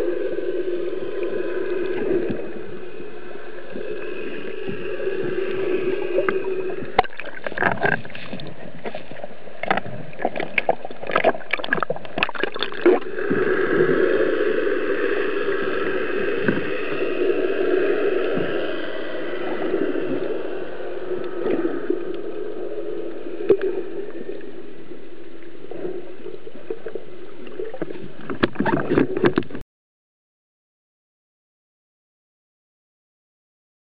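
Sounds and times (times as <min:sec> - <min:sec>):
underwater hiss and rush: 0:00.0 - 0:29.5.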